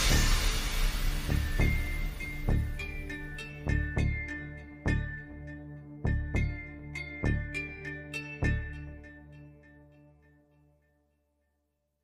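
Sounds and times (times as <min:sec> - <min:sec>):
background music held chord: 0:00.0 - 0:11.1.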